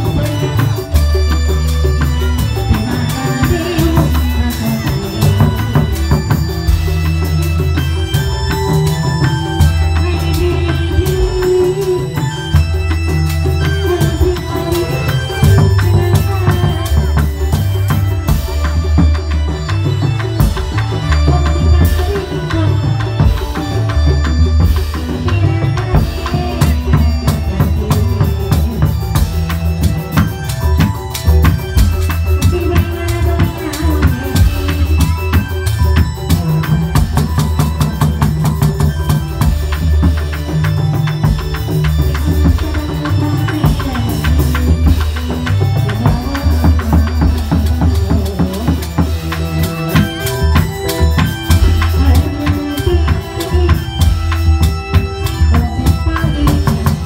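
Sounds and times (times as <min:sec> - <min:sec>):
fast dense drumming: 0:00.0 - 0:57.0
pitched melody line: 0:00.0 - 0:57.0.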